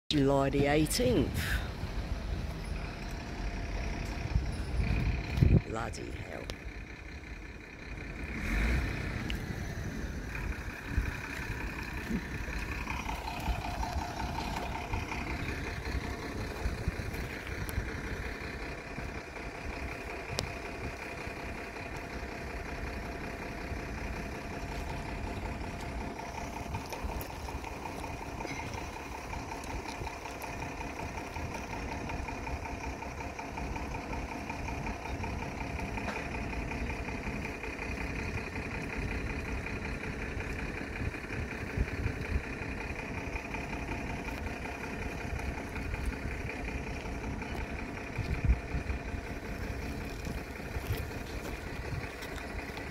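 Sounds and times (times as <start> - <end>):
diesel engine idling: 0.1 - 52.9.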